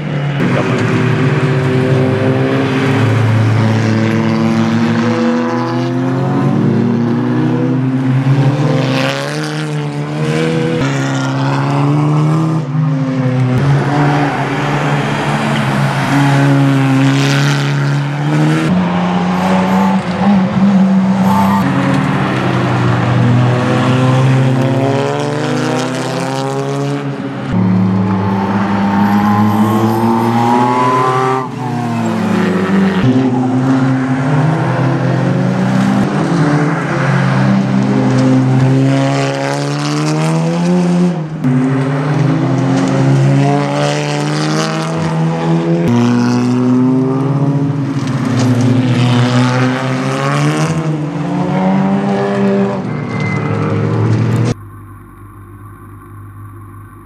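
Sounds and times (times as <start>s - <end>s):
racing car engines accelerating: 0.0s - 54.6s.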